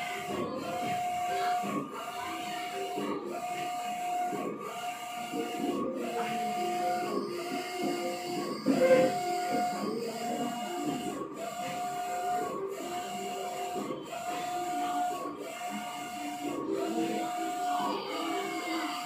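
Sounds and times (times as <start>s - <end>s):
printer carriage whining: 0.0s - 19.0s.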